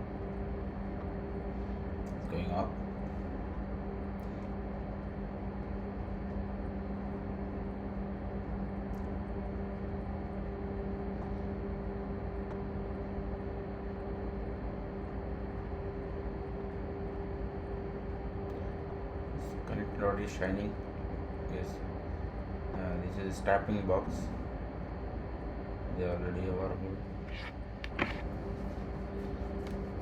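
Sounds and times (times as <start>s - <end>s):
engine room machinery hum: 0.0s - 30.0s.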